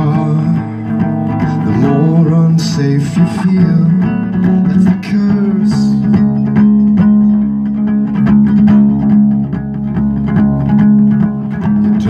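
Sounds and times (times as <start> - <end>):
ukulele strumming: 0.0 - 12.0.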